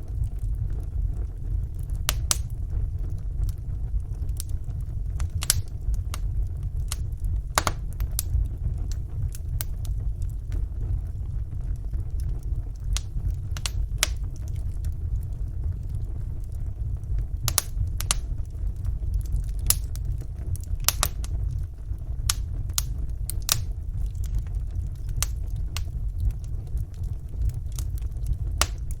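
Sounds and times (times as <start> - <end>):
fire flames rumbling: 0.0 - 29.0
logs crackling and popping: 0.0 - 29.0.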